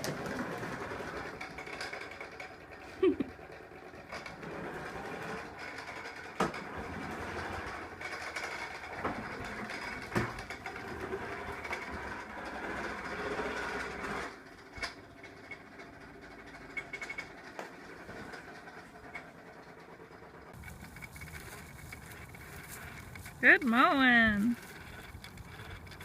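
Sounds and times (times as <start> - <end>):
toy lawn mower running sound: 0.0 - 26.0.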